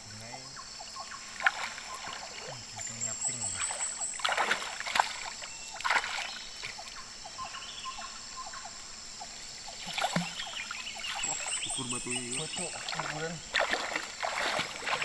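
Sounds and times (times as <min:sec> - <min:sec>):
water splashing and sloshing: 0:01.0 - 0:07.2, 0:08.8 - 0:15.0.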